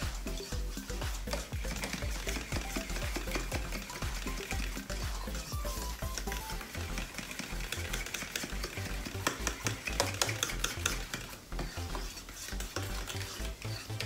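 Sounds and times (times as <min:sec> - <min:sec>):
whisk scraping metal bowl: 0:00.0 - 0:14.0.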